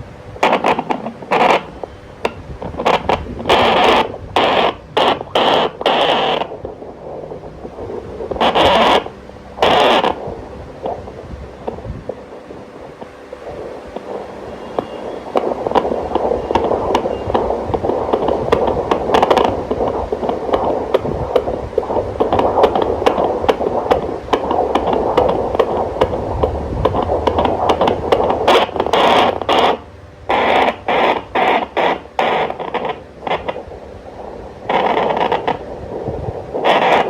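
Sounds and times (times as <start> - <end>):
fetal heartbeat whooshing pulses: 0.0 - 37.0
hissing static: 0.0 - 37.0
probe scraping clicks: 0.4 - 37.0.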